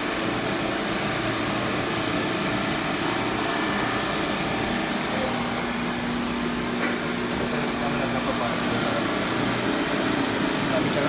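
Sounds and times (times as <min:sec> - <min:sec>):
recovery machine compressor running: 0:00.0 - 0:11.0.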